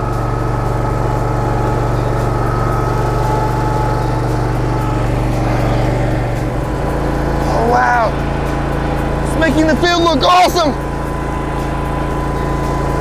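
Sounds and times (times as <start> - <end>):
engine running steadily: 0.0 - 13.0
faint high whine: 0.0 - 13.0.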